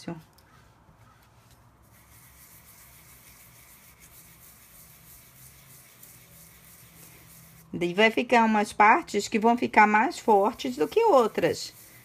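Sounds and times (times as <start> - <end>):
brush sweeping across paper: 0.2 - 7.7, 9.8 - 12.0.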